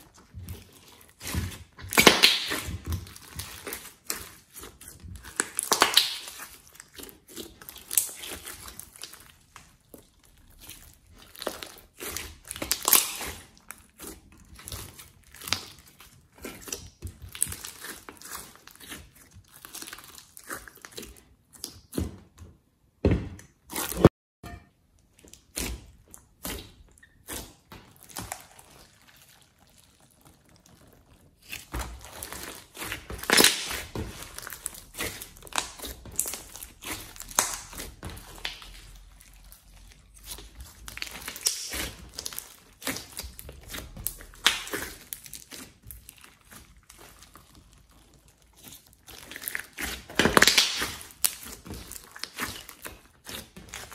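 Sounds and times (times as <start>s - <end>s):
slime squishing by hand: 0.0s - 53.9s.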